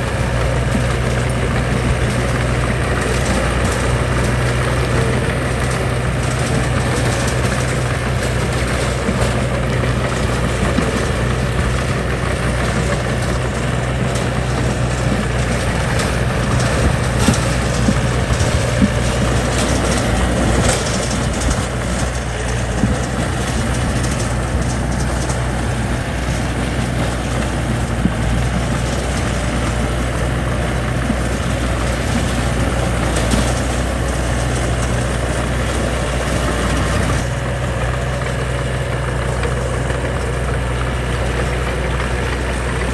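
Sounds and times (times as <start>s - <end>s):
construction machine engine running: 0.0s - 42.9s.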